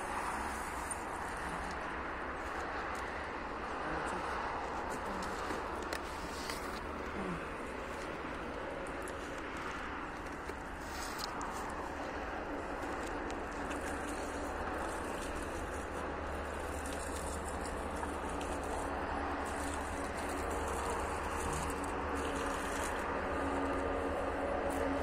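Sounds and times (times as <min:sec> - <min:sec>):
water pouring onto leaves and soil: 0:00.0 - 0:25.0.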